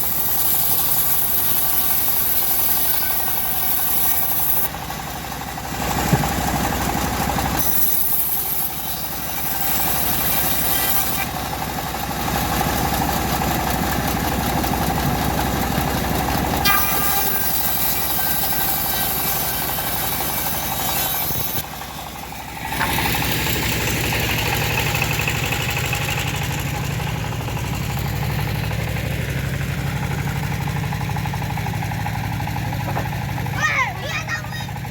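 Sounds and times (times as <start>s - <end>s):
bandsaw mill motor running: 0.0s - 34.9s.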